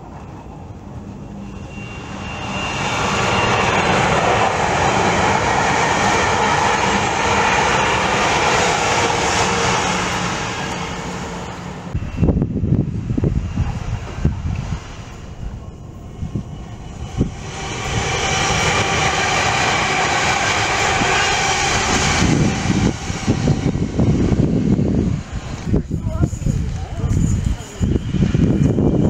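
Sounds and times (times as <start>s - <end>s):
passenger train passing: 0.0s - 29.0s
wind buffeting microphone: 0.0s - 29.0s.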